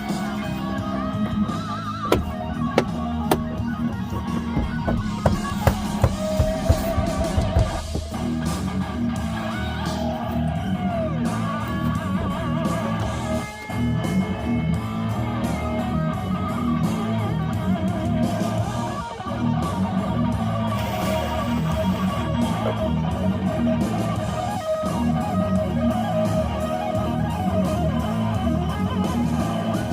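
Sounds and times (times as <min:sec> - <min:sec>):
guitar and bass music: 0:00.0 - 0:29.9.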